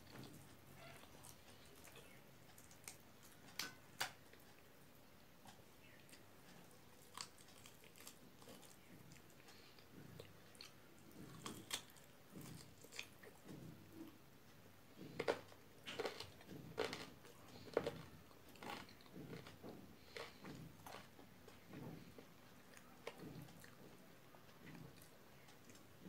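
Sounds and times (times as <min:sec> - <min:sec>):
person chewing: 0:00.1 - 0:04.7, 0:05.5 - 0:14.2, 0:15.0 - 0:25.9.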